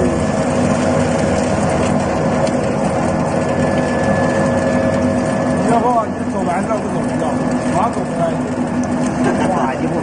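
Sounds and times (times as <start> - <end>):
oil expeller machine humming: 0.0 - 10.0.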